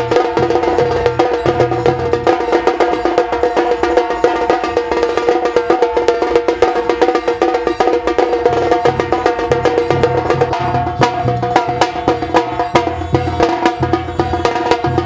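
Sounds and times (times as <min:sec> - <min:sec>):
music with fast percussion: 0:00.0 - 0:15.0.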